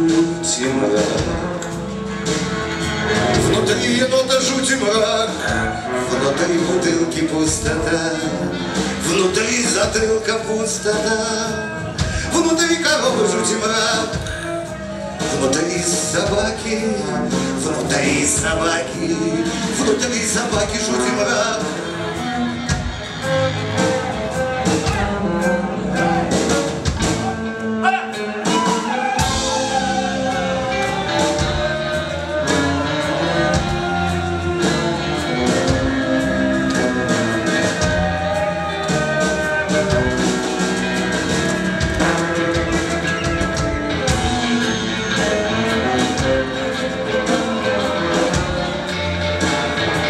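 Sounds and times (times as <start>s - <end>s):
bass: 0.0s - 50.0s
drums: 0.0s - 50.0s
electric guitar: 0.0s - 50.0s.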